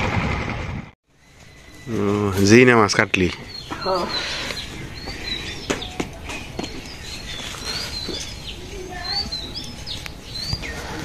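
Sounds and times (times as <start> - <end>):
small birds chirping: 1.1 - 11.0.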